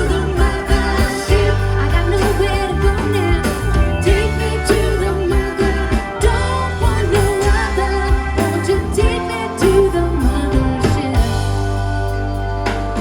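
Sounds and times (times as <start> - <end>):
bass line: 0.0 - 13.0
drums: 0.0 - 13.0
rock band playing live: 0.0 - 13.0
wavering lead melody: 0.0 - 13.0.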